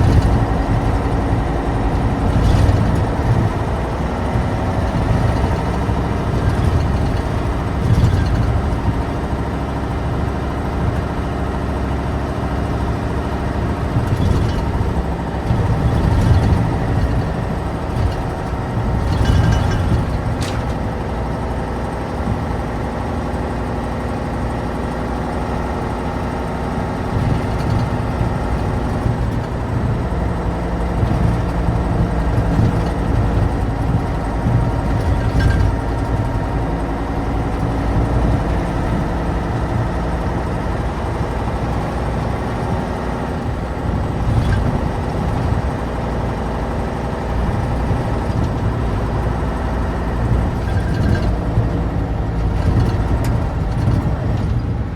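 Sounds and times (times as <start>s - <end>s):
diesel truck engine droning: 0.0s - 54.9s.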